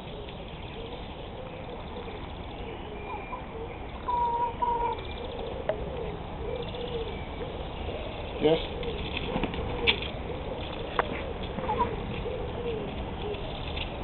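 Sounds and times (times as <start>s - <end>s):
hens calling: 0.8s - 9.0s, 9.6s - 13.5s.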